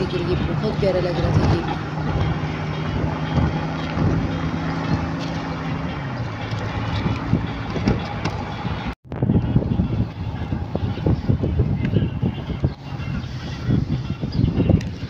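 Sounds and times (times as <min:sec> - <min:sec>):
car engine hum: 0:00.0 - 0:15.0
road noise: 0:00.0 - 0:15.0
wind on microphone: 0:00.0 - 0:15.0.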